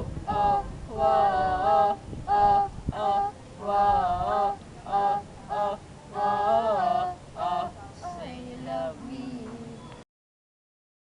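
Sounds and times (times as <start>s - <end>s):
voices singing wordless refrain: 0.0s - 10.0s.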